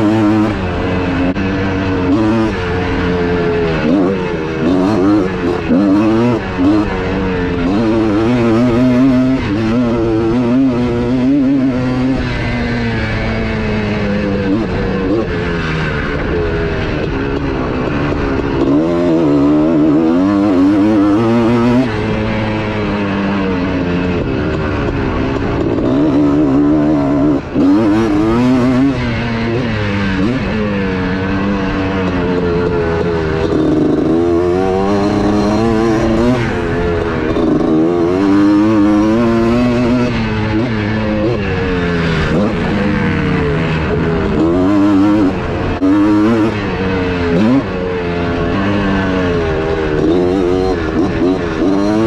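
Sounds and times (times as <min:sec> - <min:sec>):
two-stroke motocross engine revving: 0:00.0 - 0:52.0.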